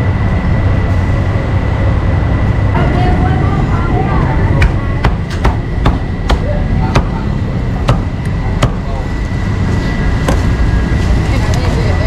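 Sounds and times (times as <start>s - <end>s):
street noise rumble: 0.0s - 12.0s.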